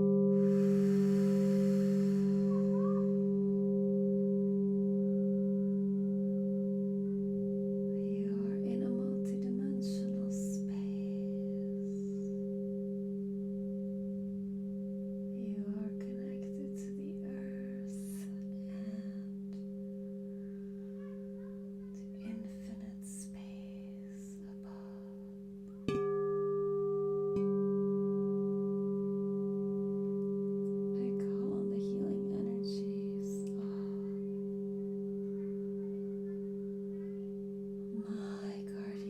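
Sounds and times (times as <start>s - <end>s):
singing bowls ringing: 0.0s - 10.7s, 11.7s - 16.1s, 19.3s - 22.2s, 25.2s - 39.0s
bowl struck: 0.0s - 16.1s, 19.3s - 22.6s, 25.0s - 39.0s.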